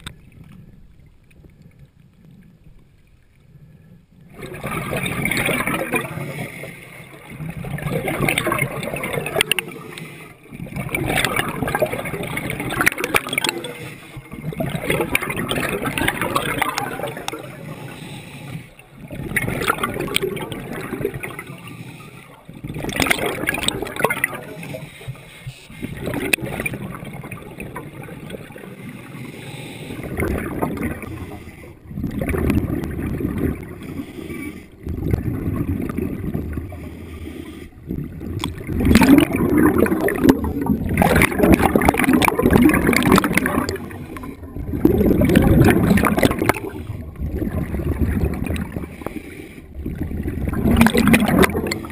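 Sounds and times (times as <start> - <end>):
exhaled bubbles gurgling: 0.0 - 51.9
diver breathing underwater: 3.4 - 26.4, 28.4 - 51.9.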